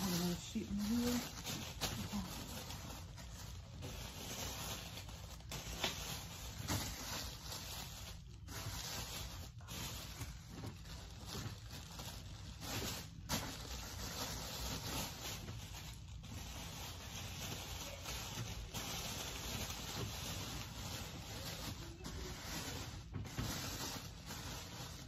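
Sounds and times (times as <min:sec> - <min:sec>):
packaging rustling and crinkling: 0:00.0 - 0:25.0.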